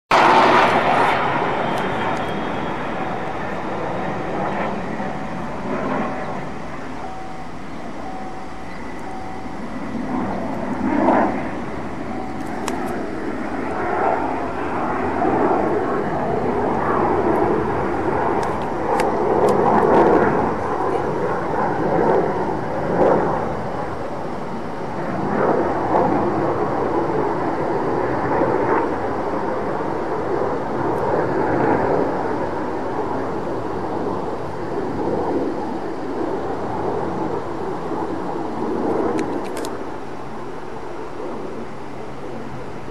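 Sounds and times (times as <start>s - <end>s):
jet aircraft rumbling overhead: 0.1s - 42.9s.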